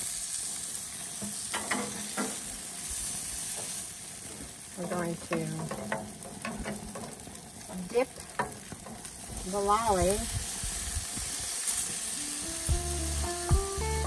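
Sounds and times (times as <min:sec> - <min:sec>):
meat sizzling on grill: 0:00.0 - 0:14.0.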